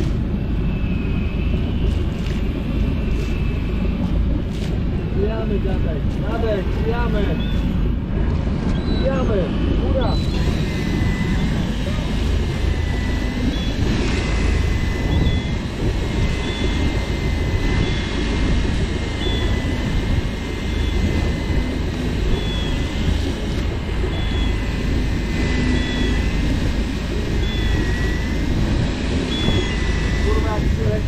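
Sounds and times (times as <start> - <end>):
electric reel motor whining: 0.0 - 31.0
low steady rumble: 0.0 - 31.0.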